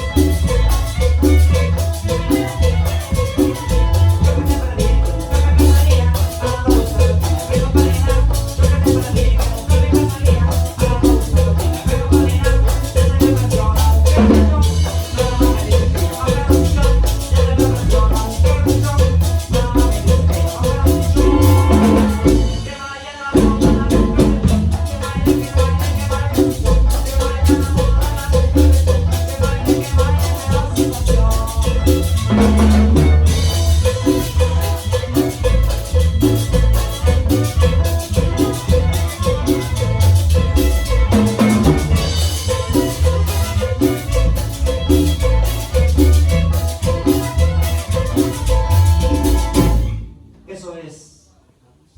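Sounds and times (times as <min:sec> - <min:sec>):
pulsing bass line: 0:00.0 - 0:22.8, 0:23.4 - 0:50.4
shaken and struck percussion: 0:00.0 - 0:50.8
band playing latin dance music: 0:00.0 - 0:51.1.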